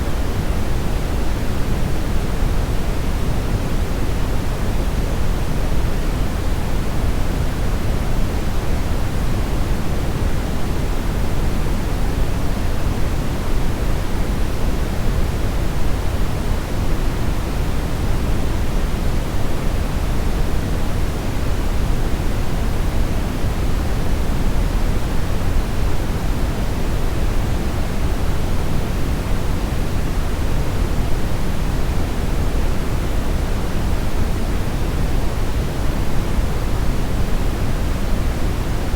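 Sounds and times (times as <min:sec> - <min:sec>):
low steady noise rush: 0:00.0 - 0:38.9.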